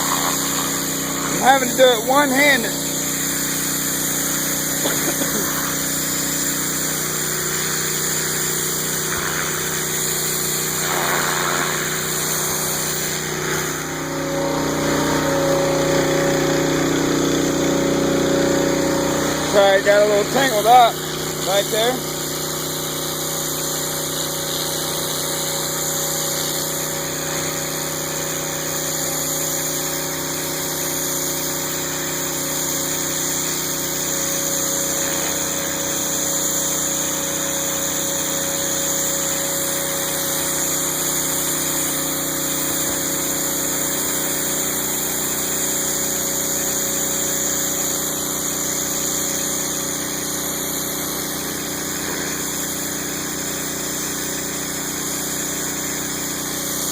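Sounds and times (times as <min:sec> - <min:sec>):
pressure washer engine running: 0:00.0 - 0:56.9.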